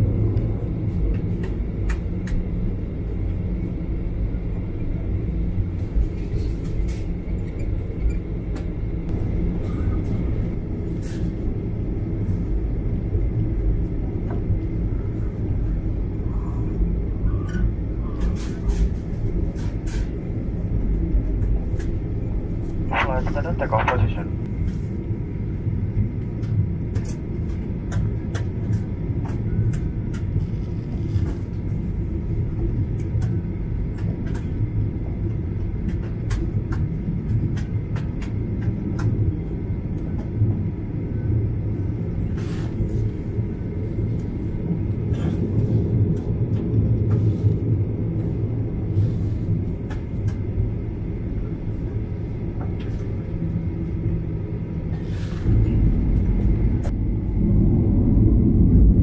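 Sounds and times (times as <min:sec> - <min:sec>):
faint engine whine: 0:00.0 - 0:59.0
jet engines idling: 0:00.0 - 0:59.0.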